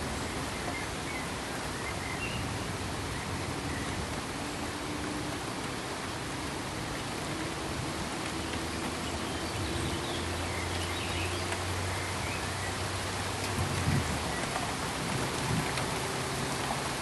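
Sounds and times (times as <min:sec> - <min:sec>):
steady pink noise hiss: 0:00.0 - 0:17.0.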